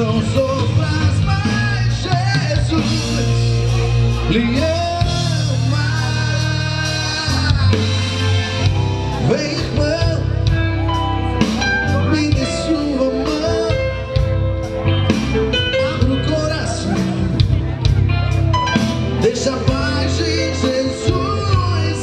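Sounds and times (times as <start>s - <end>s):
man singing: 0.0s - 17.9s, 18.8s - 22.0s
gospel band playing: 0.0s - 22.0s.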